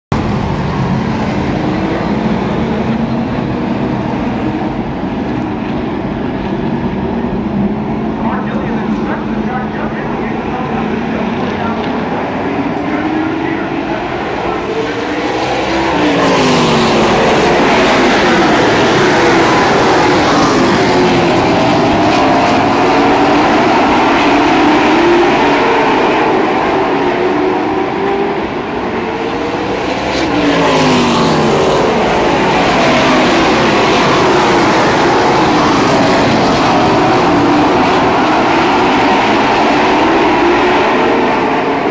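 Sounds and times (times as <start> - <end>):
race car engines at speed: 0.1 - 41.9.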